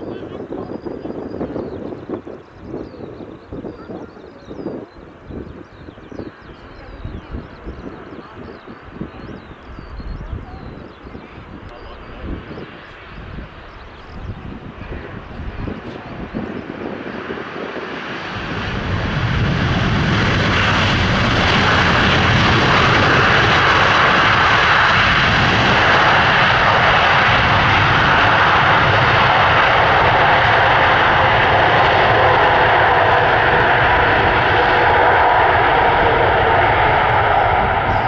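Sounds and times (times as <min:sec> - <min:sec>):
jet engine roar: 0:00.0 - 0:38.0.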